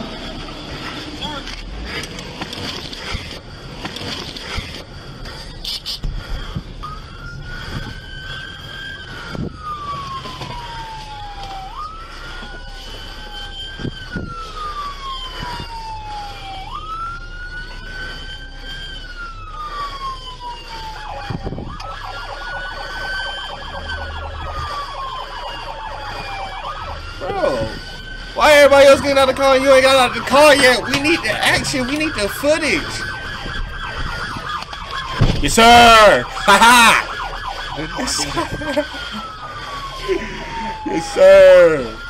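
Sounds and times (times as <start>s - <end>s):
police siren wailing: 0.0s - 42.0s.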